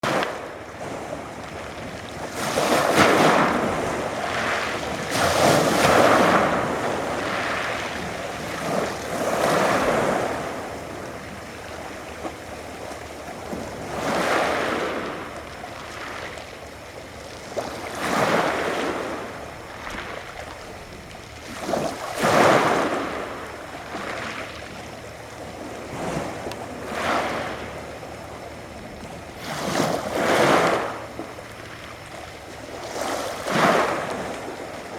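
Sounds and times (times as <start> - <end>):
waves washing onto shore: 0.0 - 34.9.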